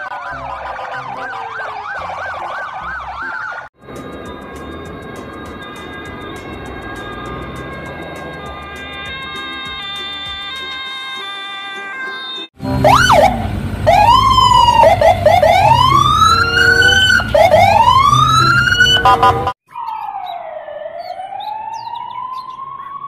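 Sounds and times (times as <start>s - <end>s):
police sirens wailing and yelping: 0.0s - 23.0s.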